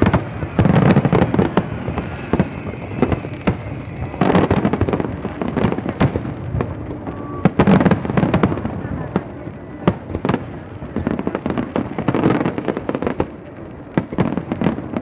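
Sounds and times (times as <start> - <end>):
continuous rumble: 0.0 - 15.0
firework bangs and crackling: 0.0 - 15.0.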